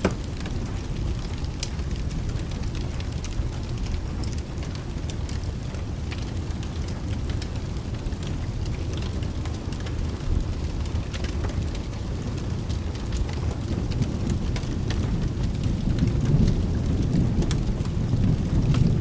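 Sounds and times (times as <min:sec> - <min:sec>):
crackles and drips: 0:00.0 - 0:19.0
steady rain: 0:00.0 - 0:19.0
thunder rumbling: 0:00.0 - 0:19.0.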